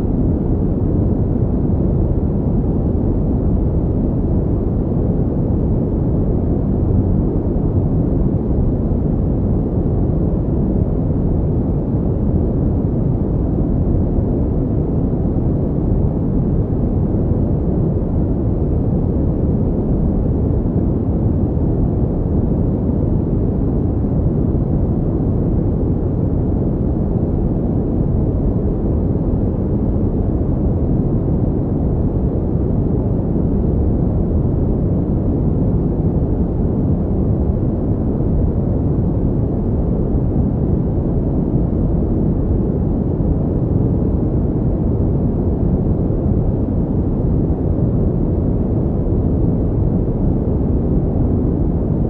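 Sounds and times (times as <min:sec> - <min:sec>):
steady pink noise: 0:00.0 - 0:52.0.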